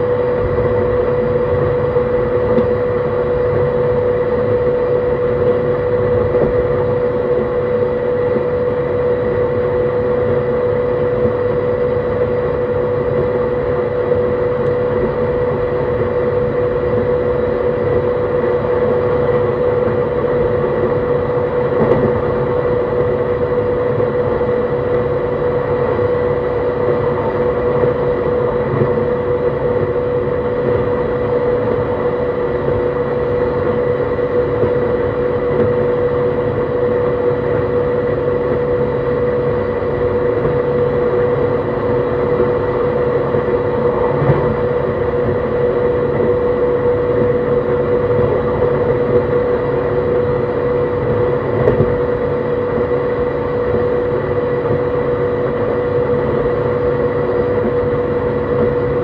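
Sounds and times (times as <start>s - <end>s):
electric drive whine: 0.0s - 59.0s
train rail running noise: 0.0s - 59.0s.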